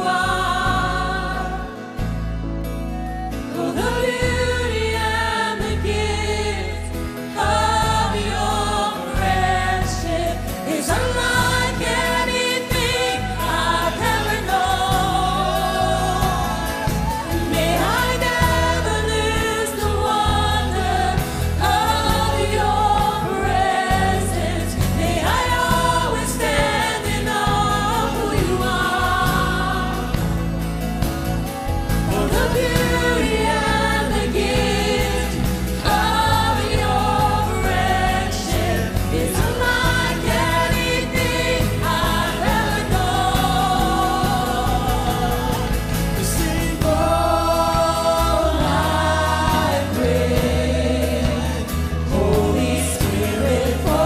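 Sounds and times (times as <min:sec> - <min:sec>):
women singing together: 0:00.0 - 0:02.1, 0:03.2 - 0:54.0
acoustic guitar: 0:00.0 - 0:54.0
bass guitar: 0:00.0 - 0:54.0
drums: 0:00.0 - 0:54.0
keyboard: 0:00.0 - 0:54.0.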